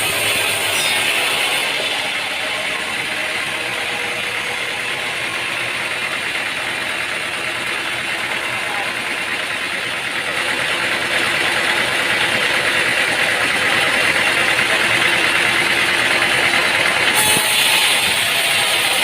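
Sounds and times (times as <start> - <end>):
dense mechanical noise: 0.0 - 19.0
engine running: 0.0 - 19.0.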